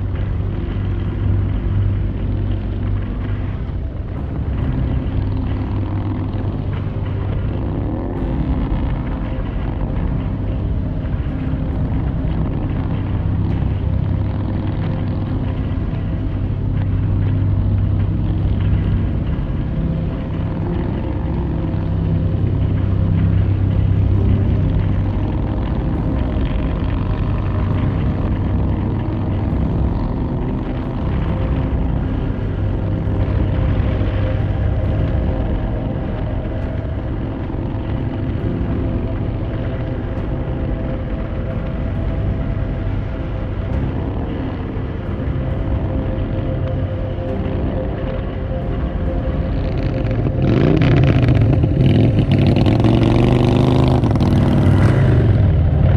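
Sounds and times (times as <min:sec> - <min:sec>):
motorcycle engine running: 0:00.0 - 0:55.9
rushing noise: 0:00.0 - 0:55.9
wind and road noise: 0:00.0 - 0:55.9.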